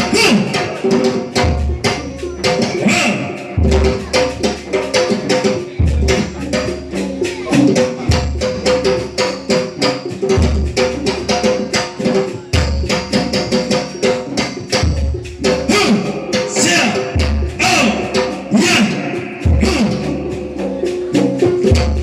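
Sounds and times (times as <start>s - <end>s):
rhythmic percussion music: 0.0s - 22.0s.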